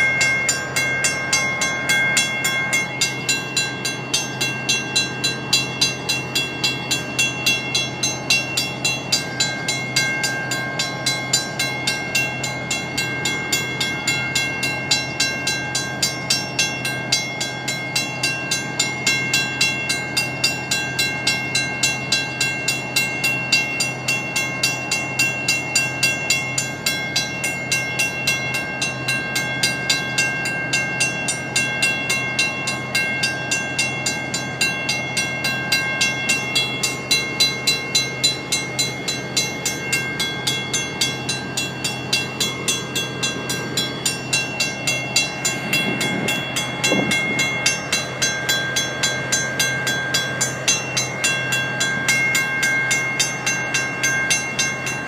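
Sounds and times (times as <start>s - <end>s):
crossing bell ringing: 0.0s - 55.0s
diesel locomotives idling: 0.0s - 55.0s.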